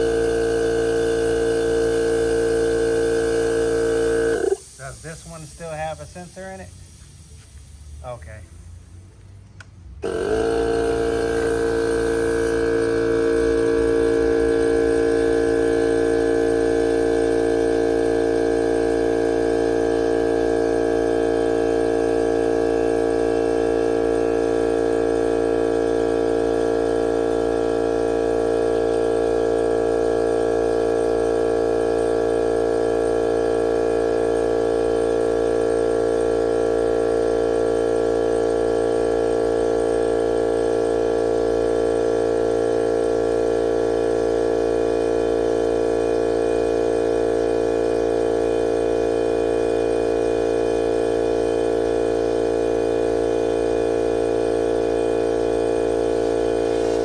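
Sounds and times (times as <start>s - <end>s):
air compressor running: 0.0s - 57.0s.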